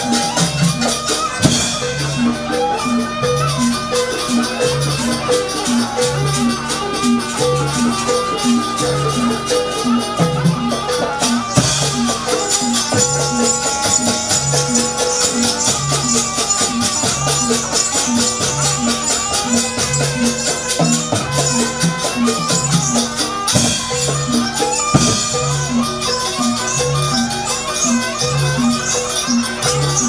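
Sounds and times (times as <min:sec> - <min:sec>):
dense drumming and rattling percussion: 0:00.0 - 0:30.0
held melodic tones: 0:00.0 - 0:30.0.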